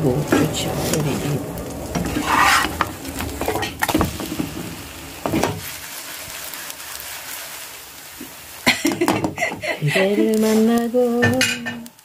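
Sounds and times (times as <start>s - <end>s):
batter sizzling in frying pan: 0.0s - 12.0s.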